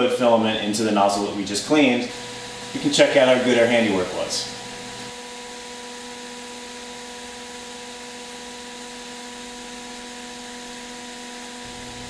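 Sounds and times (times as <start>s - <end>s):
printer fan hum: 0.0s - 12.0s.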